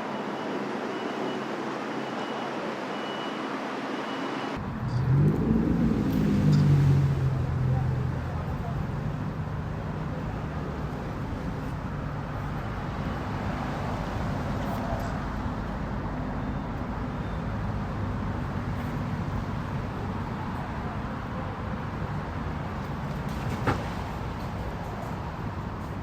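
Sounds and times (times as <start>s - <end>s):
outdoor background noise: 0.0s - 26.0s
engines rumbling at low revs: 4.5s - 26.0s.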